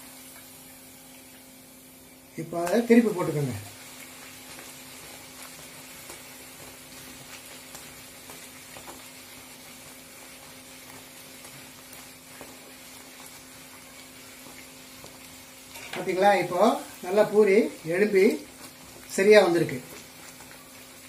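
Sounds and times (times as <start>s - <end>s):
dough deep-frying in oil: 0.0s - 21.0s.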